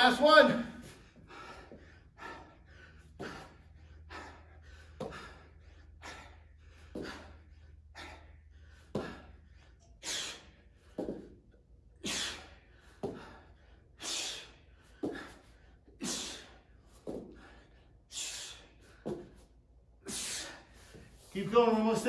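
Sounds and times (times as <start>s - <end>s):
man breathing hard: 0.7s - 21.4s.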